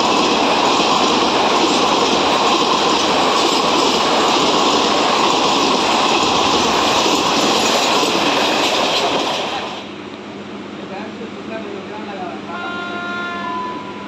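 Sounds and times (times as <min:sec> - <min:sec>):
train rushing through station: 0:00.0 - 0:14.0.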